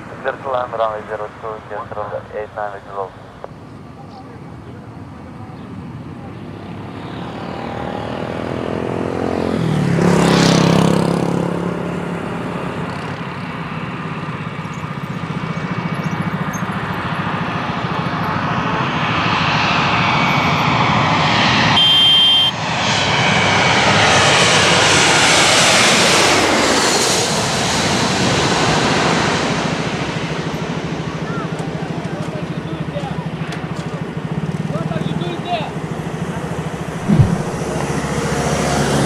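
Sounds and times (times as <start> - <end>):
jet passing low overhead: 0.0 - 21.8, 22.4 - 31.1, 35.8 - 39.0.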